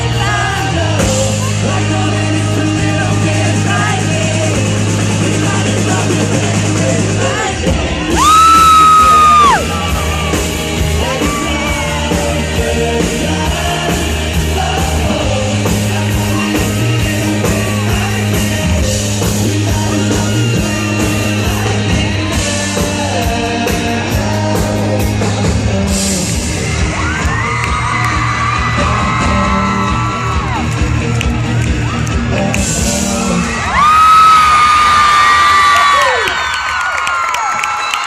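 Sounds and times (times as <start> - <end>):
live pop band with singing: 0.0 - 38.0.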